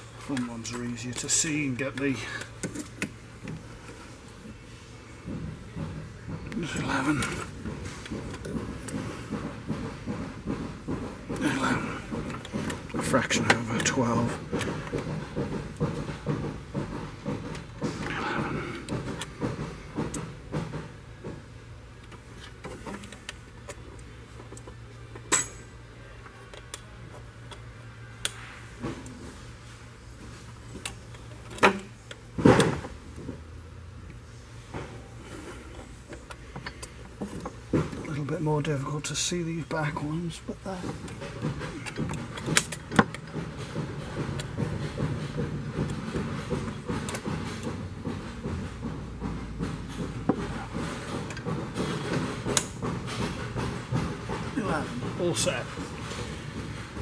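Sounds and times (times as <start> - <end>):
low workshop hum: 0.0 - 57.0.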